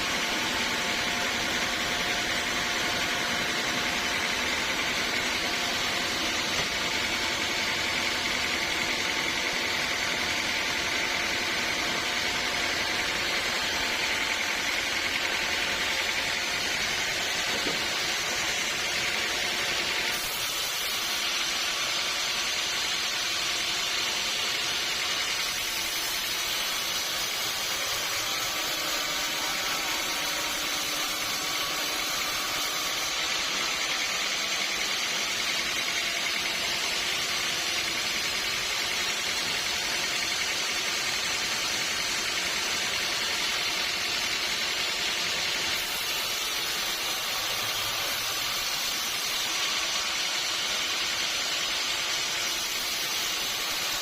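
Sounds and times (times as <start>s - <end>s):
sawmill machinery humming with whine: 0.0s - 54.0s.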